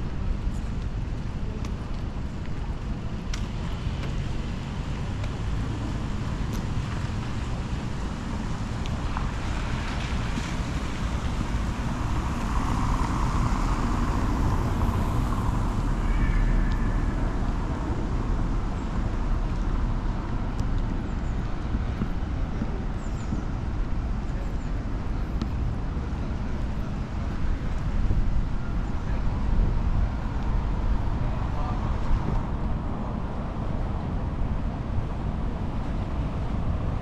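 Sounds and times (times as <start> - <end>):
distant traffic noise: 0.0 - 37.0
vehicles passing: 0.0 - 37.0.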